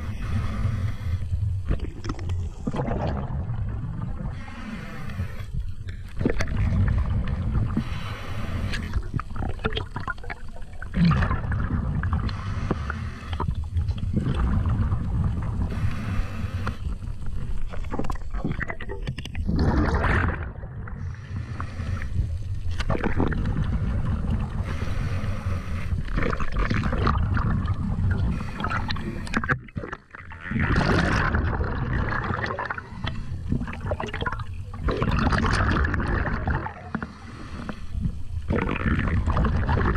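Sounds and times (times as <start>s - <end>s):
underwater rumble: 0.0s - 39.9s
water rushing and gurgling: 0.0s - 39.9s.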